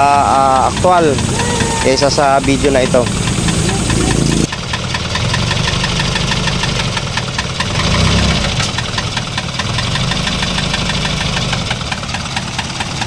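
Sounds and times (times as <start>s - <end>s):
diesel engine idling: 0.0s - 13.0s
fast metallic engine knock: 0.0s - 13.0s.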